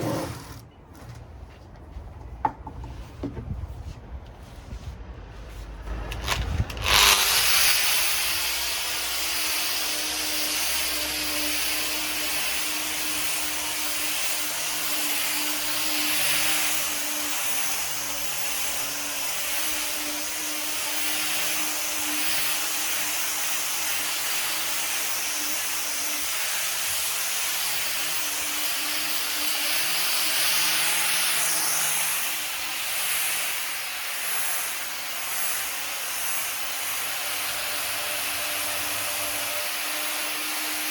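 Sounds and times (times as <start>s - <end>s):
orbital sander running: 5.9s - 40.9s
sandpaper hissing on wood: 6.8s - 40.9s.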